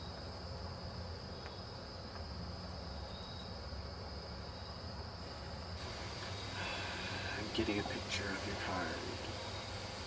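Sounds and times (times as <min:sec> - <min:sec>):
crickets chirring: 0:00.0 - 0:10.0
low background hum: 0:00.0 - 0:10.0.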